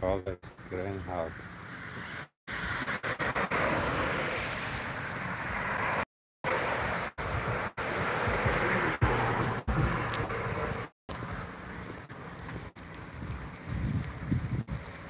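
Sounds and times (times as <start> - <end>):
wind: 0.0 - 15.0
traffic road noise: 0.4 - 15.0.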